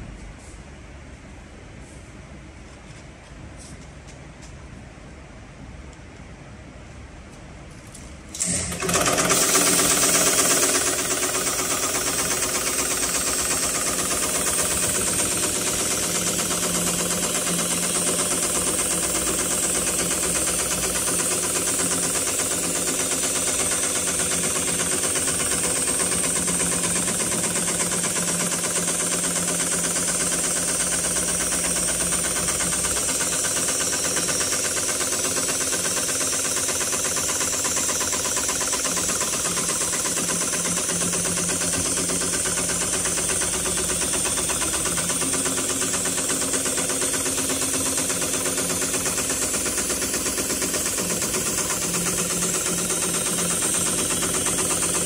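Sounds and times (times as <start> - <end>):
sewing machine stitching: 8.4 - 55.0.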